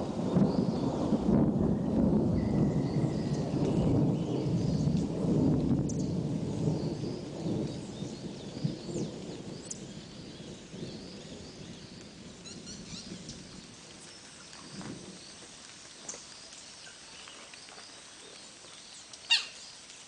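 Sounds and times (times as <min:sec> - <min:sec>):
thunder rumbling: 0:00.0 - 0:16.1.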